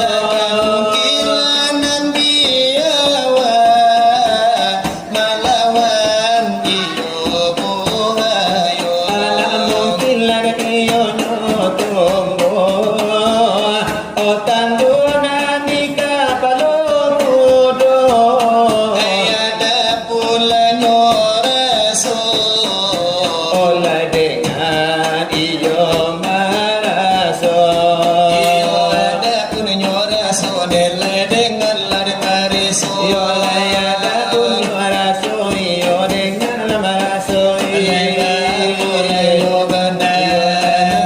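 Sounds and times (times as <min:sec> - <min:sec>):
fingers rapping on brass tray: 0:00.0 - 0:41.0
voices singing devotional melody: 0:00.0 - 0:41.0.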